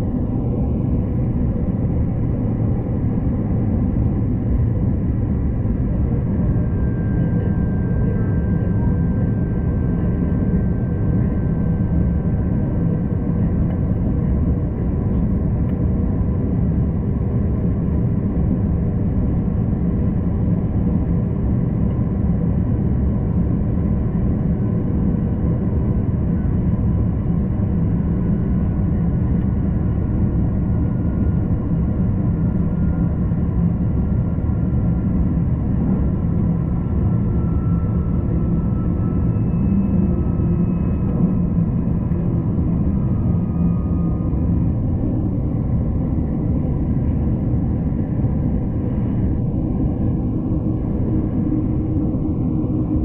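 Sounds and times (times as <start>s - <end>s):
faint whine: 0.0s - 53.0s.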